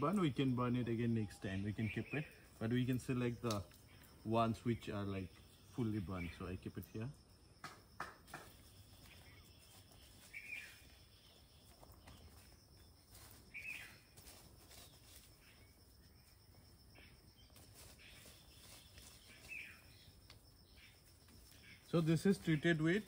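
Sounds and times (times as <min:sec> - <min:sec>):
bird chirping: 0:00.0 - 0:06.9, 0:07.6 - 0:14.2, 0:14.8 - 0:23.0.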